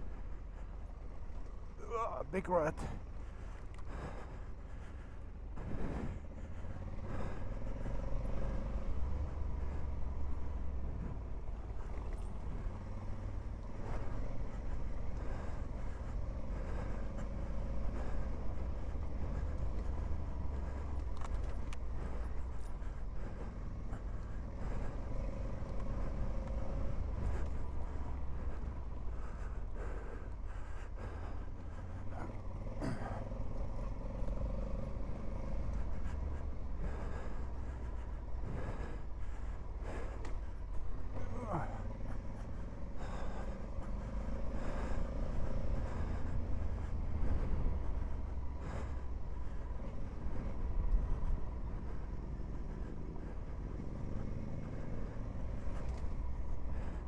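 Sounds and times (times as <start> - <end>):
motorcycle engine running: 4.3 - 57.0.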